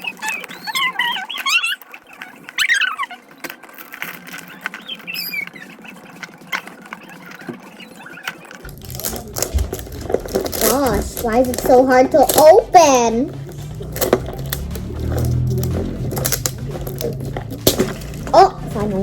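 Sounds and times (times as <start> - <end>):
plastic packaging crackling: 0.0 - 7.5, 8.3 - 19.0.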